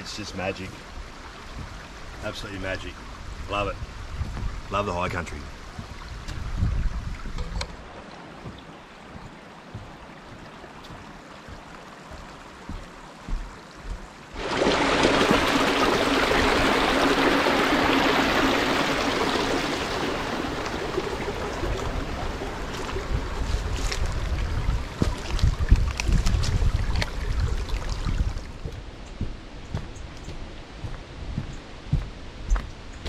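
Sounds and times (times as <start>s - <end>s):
water rushing over rocks: 0.0s - 28.8s.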